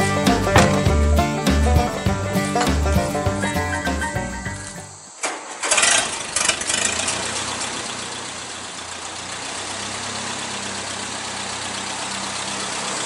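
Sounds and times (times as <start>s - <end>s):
tractor engine idling unevenly: 0.0s - 4.6s, 5.7s - 13.0s.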